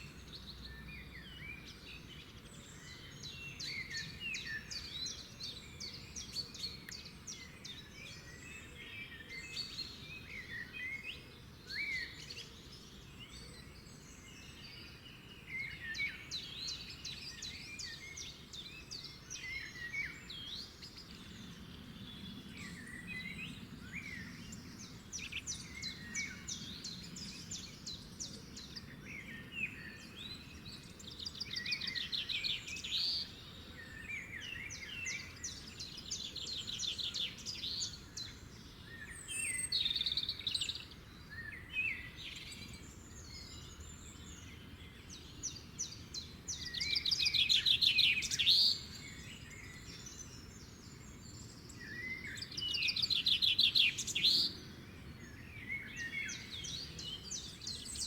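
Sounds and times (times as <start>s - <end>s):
faint outdoor background: 0.0s - 58.0s
songbirds singing: 0.0s - 58.0s.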